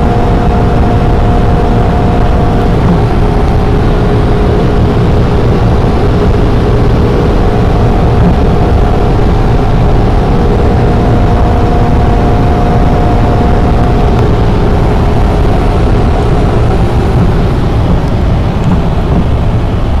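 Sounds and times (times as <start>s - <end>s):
car engine drone with whine: 0.0s - 20.0s
wind and tyre roar: 0.0s - 20.0s.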